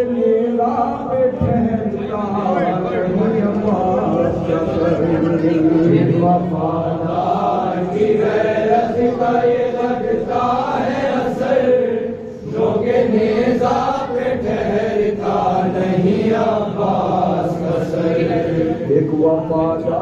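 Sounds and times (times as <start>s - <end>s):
men chanting a lament through a microphone: 0.0s - 20.0s.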